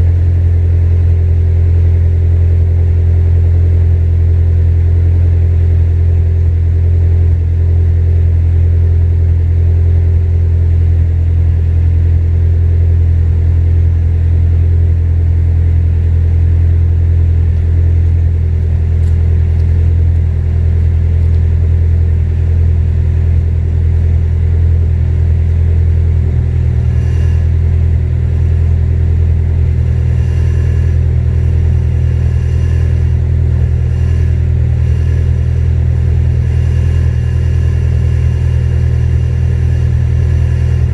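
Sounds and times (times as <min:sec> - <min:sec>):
car exhaust idling: 0:00.0 - 0:40.9.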